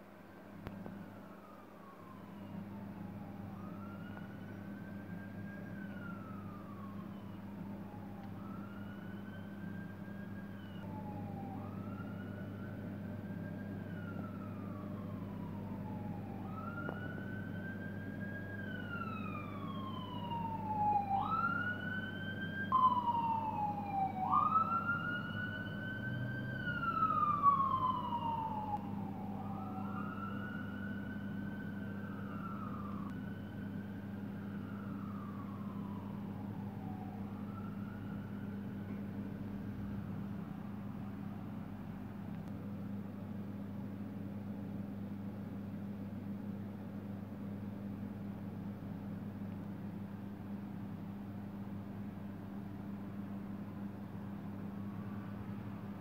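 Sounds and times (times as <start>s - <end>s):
steady low hum: 0.0s - 56.0s
emergency vehicle siren wailing: 0.6s - 43.1s, 53.1s - 56.0s.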